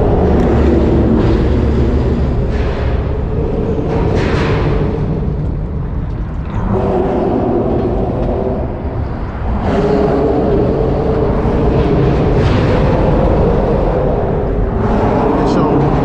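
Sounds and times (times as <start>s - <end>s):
low rumble with humming drone: 0.0s - 16.0s.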